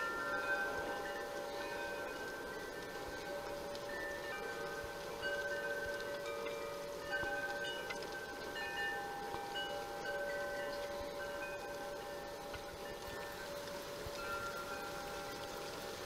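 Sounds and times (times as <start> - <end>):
chimes ringing: 0.0 - 16.0.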